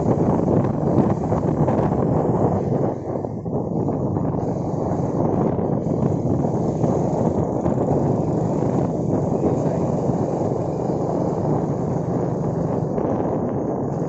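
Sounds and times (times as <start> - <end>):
motor scooter running: 0.0 - 14.0
wind rumble on microphone: 0.0 - 14.0.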